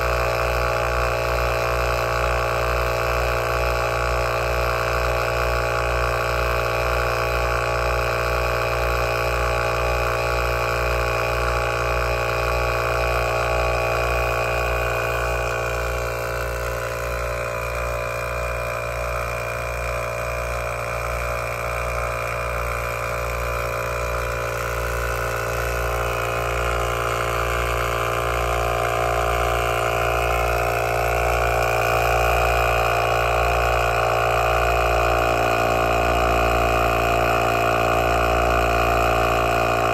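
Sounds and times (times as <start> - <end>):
air compressor running: 0.0 - 39.9
van engine idling: 0.0 - 39.9.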